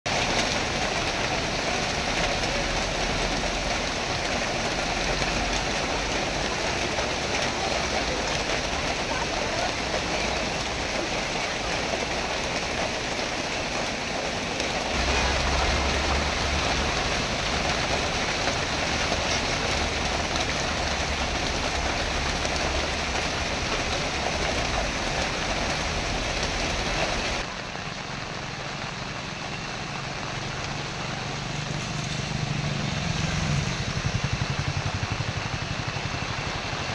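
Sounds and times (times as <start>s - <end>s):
heavy rain falling: 0.0s - 36.9s
vehicles passing on wet road: 0.1s - 36.9s.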